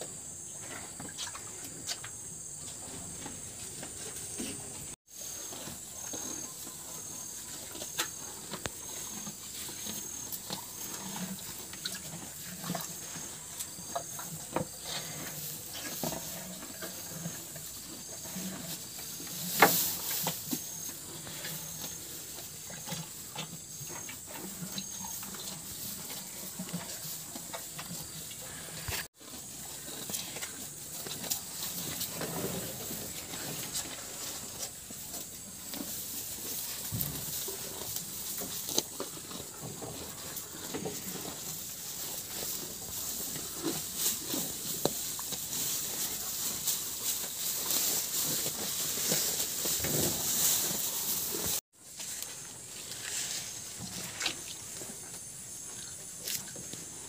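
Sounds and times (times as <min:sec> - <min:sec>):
cattle tearing and chewing grass: 0:02.9 - 0:57.0.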